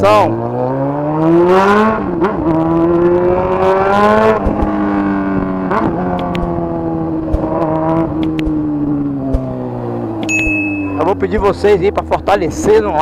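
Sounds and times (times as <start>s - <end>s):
motorcycle engine revving through gears: 0.1s - 13.0s.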